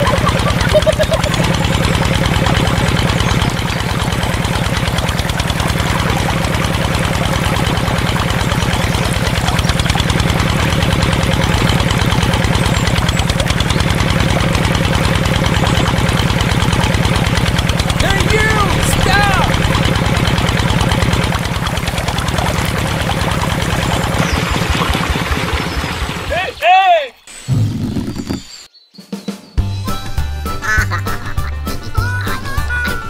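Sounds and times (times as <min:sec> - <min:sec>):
diesel pump engine chugging: 0:00.0 - 0:26.6.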